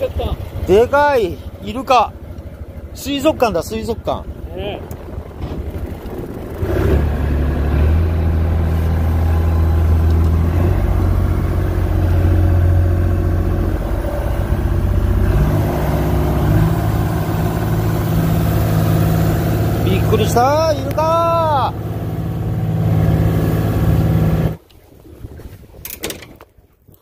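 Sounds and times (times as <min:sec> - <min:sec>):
boat engine running: 0:00.0 - 0:26.1.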